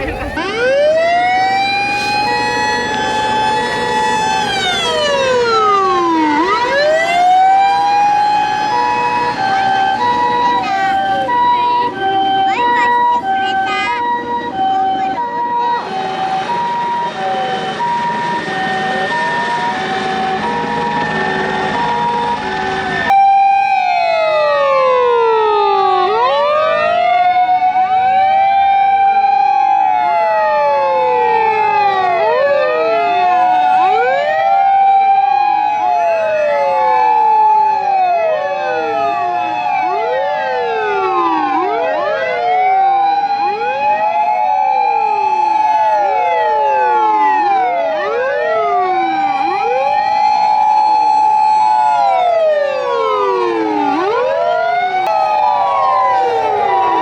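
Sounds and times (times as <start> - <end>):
fire engine sirens wailing: 0.0 - 57.0.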